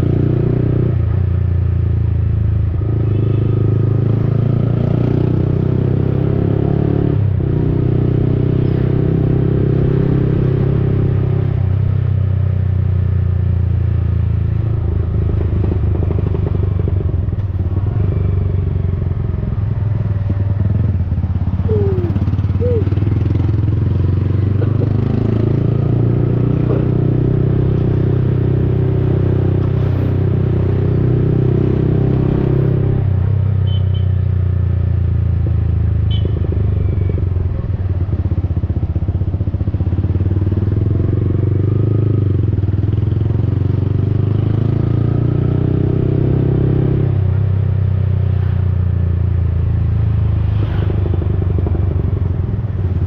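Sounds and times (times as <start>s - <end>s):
motorcycle engine exhaust while riding: 0.0s - 53.0s.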